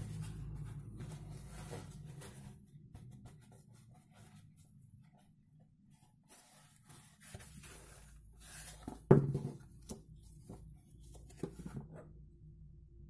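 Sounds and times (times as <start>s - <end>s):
fabric rustling and rubbing: 0.0s - 12.0s.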